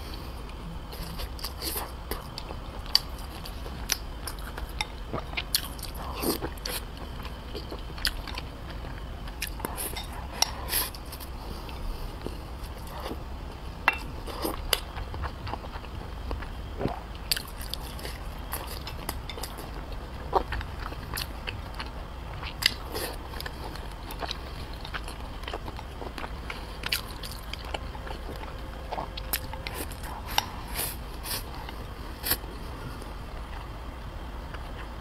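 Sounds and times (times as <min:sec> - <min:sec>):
wet chewing with clicks: 0:01.0 - 0:13.2, 0:14.2 - 0:32.5.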